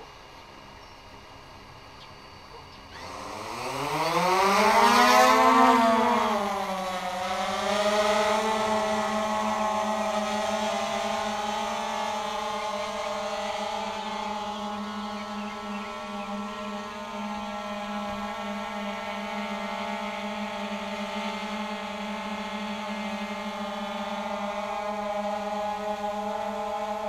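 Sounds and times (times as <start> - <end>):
drone propellers whining: 0.0 - 27.0.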